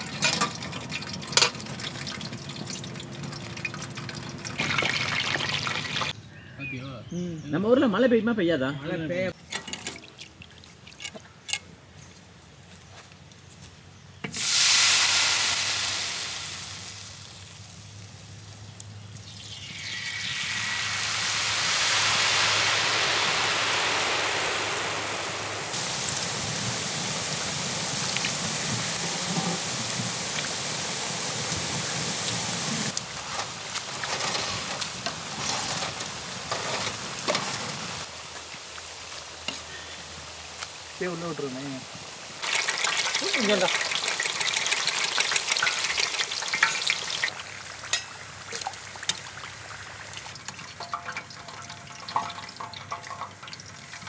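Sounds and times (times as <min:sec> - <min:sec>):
batter sizzling in hot oil: 0:00.0 - 0:06.2, 0:14.3 - 0:54.0.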